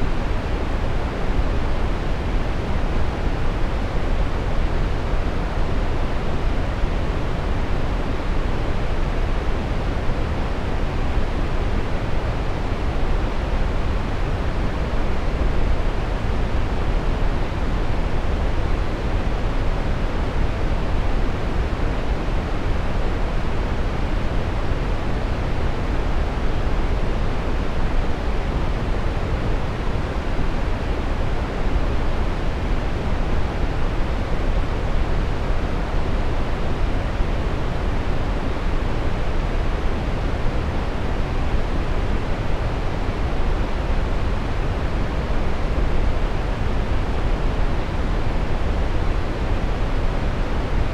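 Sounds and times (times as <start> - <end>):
steady brown noise: 0.0 - 50.9.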